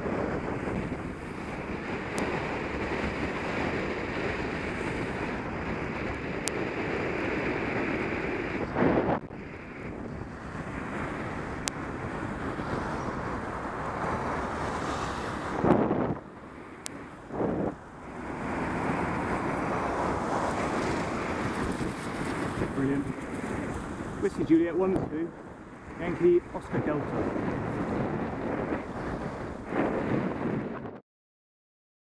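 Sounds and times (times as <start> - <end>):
wind rushing on microphone: 0.0 - 31.0.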